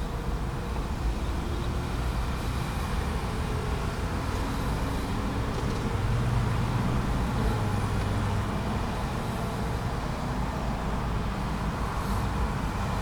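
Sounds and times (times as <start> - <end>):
road traffic engines: 0.0 - 13.0.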